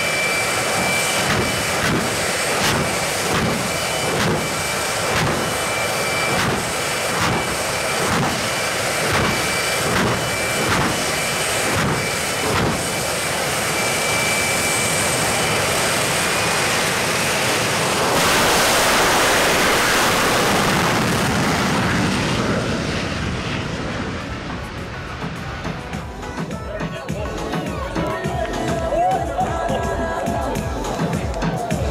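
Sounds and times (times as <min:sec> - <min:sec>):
jet engine roaring: 0:00.0 - 0:31.9.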